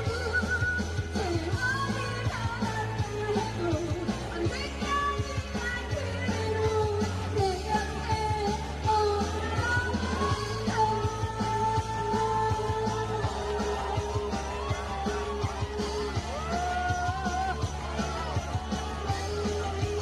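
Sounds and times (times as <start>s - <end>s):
bass line and drum beat: 0.0s - 20.0s
person singing pop song: 0.0s - 20.0s.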